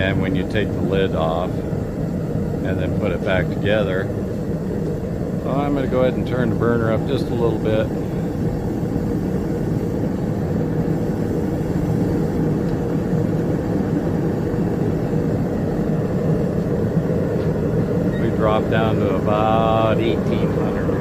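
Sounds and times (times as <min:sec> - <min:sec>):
propane burner rushing: 0:00.0 - 0:21.0.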